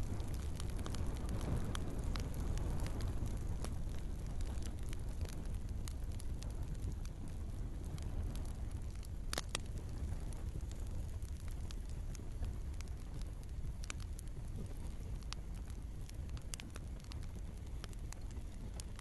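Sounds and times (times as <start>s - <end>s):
burning logs snapping and popping: 0.0s - 19.0s
wood fire rumbling: 0.0s - 19.0s.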